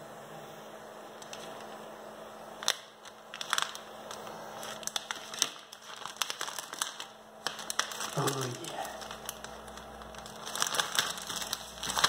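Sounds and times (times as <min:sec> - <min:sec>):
low steady hum: 0:00.0 - 0:12.0
plastic bag crinkling and tearing: 0:01.2 - 0:01.8, 0:02.6 - 0:12.0.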